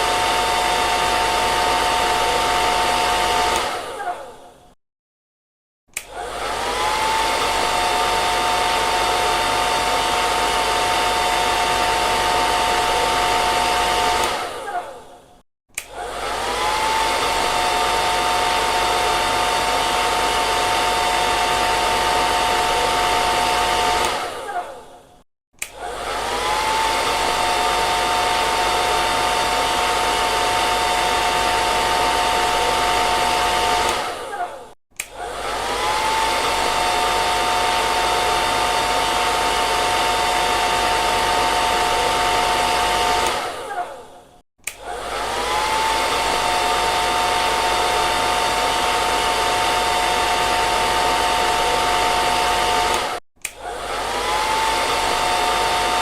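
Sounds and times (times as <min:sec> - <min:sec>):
hair dryer blowing: 0:00.0 - 0:04.6, 0:05.9 - 0:56.0.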